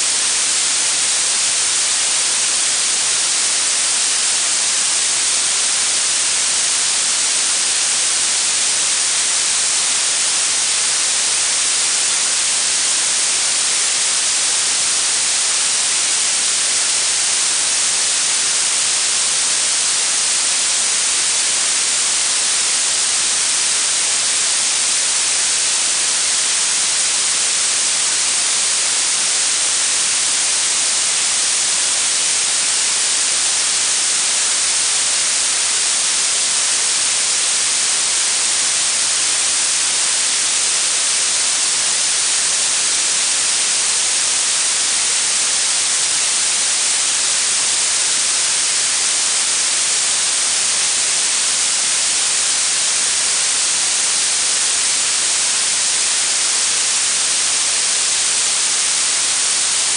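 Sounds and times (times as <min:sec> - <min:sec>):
steady high-pitched hiss: 0:00.0 - 0:59.9.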